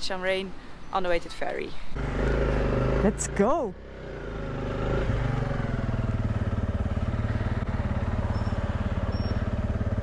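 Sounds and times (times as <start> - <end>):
motorcycle engine running at low revs: 2.0 - 10.0.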